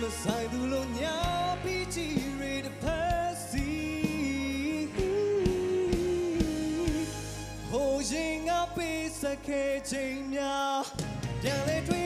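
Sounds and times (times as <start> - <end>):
backing band: 0.0 - 12.0
man singing pop song: 0.0 - 12.0.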